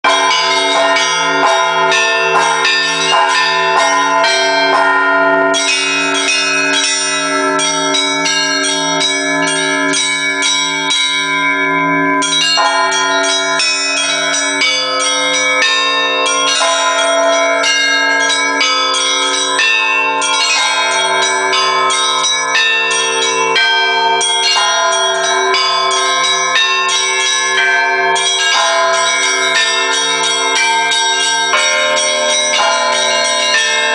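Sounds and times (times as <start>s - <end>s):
small bells striking quickly: 0.0s - 33.9s
low bell steady beat: 0.1s - 33.9s.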